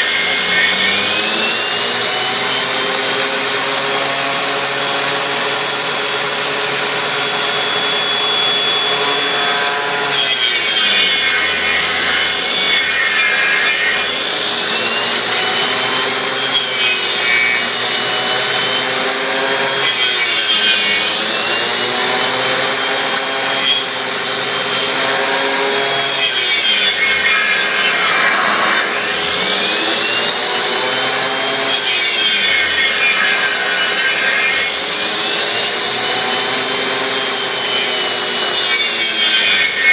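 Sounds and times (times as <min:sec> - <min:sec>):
motors running: 0:00.0 - 0:39.9
saw blade cutting wood: 0:00.0 - 0:39.9.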